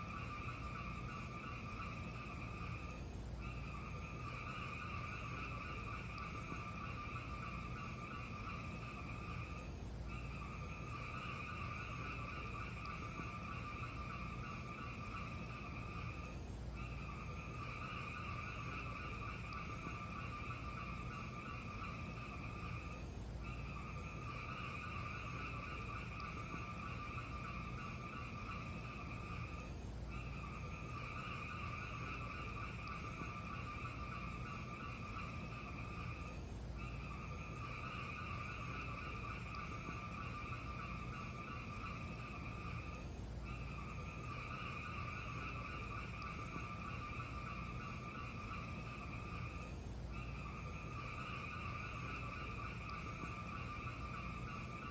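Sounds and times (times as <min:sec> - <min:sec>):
fire crackles: 0:00.0 - 0:54.9
fireplace hiss and rumble: 0:00.0 - 0:54.9.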